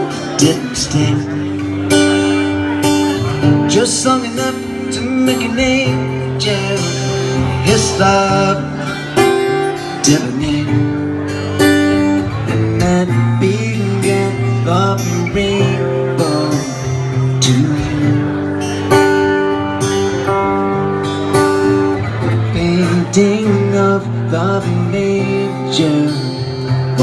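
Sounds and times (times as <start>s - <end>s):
acoustic guitar playing: 0.0s - 27.0s
low bass guitar notes: 0.0s - 27.0s.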